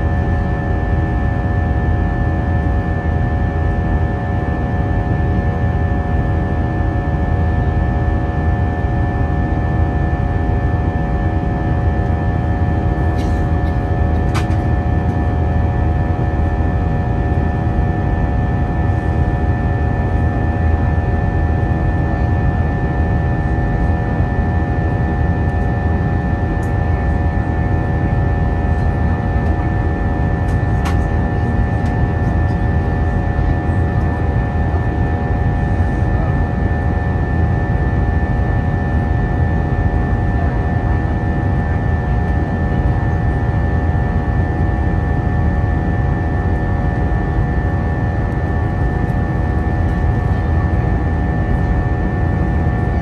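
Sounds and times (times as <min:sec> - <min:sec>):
airplane cabin roar: 0:00.0 - 0:53.0.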